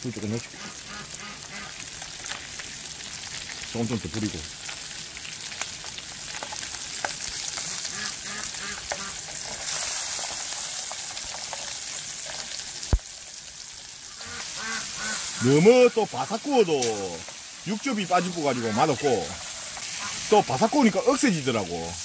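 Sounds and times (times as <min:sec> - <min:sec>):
crawfish sizzling in butter: 0:00.0 - 0:22.0.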